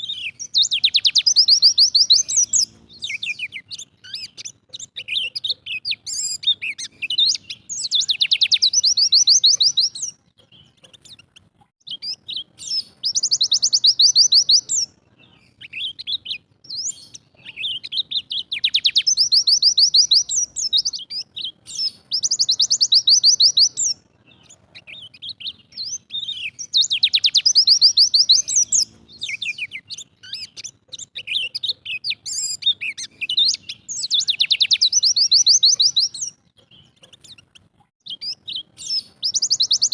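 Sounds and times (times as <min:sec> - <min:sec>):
bird trilling song: 0:00.0 - 0:39.9
soft bird chirps: 0:00.0 - 0:39.9.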